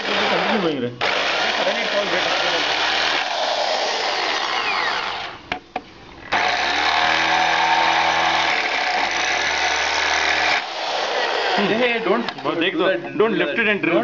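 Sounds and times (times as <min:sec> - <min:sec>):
electric drill boring metal: 0:00.0 - 0:05.4, 0:06.3 - 0:12.4.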